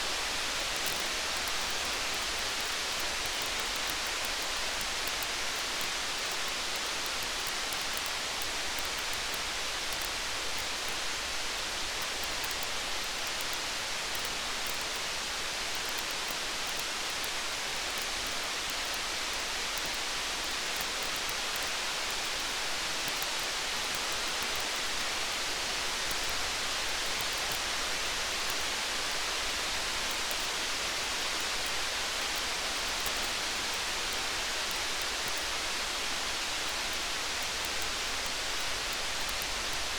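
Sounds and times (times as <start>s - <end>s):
faint campfire crackles: 0.0s - 39.9s
steady rain: 0.0s - 39.9s.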